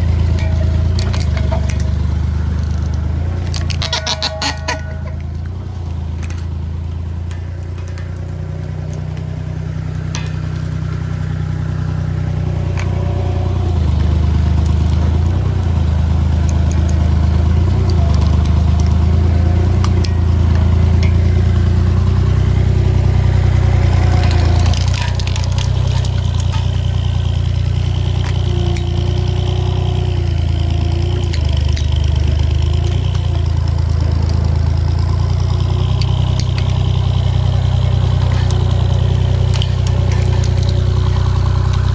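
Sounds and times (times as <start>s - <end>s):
road roller engine running: 0.0s - 41.9s
sharp cracks and clatter: 0.0s - 41.9s.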